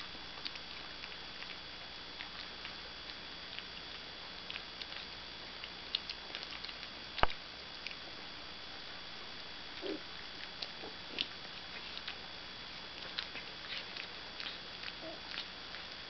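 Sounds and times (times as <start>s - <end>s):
puppies chewing: 0.0s - 16.0s.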